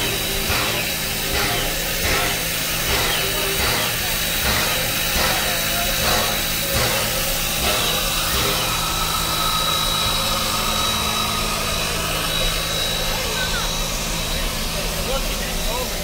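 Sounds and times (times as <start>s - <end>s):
low mechanical hum: 0.0s - 16.0s
steam hissing: 0.0s - 16.0s.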